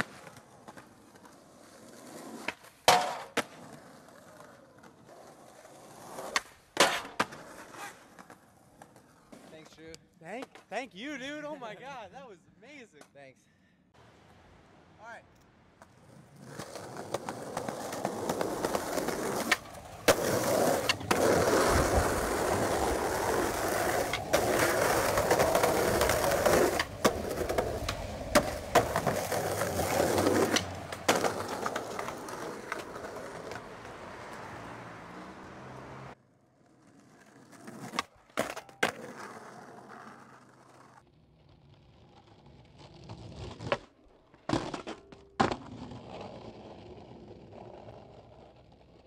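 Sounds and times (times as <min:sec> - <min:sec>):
skateboard clacks: 0:00.0 - 0:10.8, 0:15.8 - 0:34.8, 0:36.6 - 0:49.0
skateboard wheels rolling on pavement: 0:00.0 - 0:12.0, 0:14.0 - 0:49.0.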